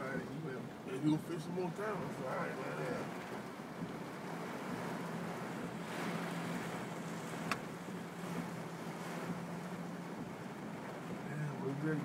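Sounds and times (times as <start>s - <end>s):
low engine hum: 0.0s - 12.0s
water washing around vehicle: 0.0s - 12.0s.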